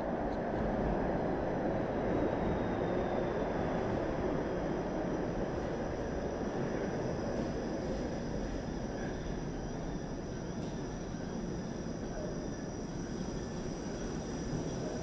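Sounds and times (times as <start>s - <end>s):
streetcar rumbling in tunnel: 0.0s - 15.0s.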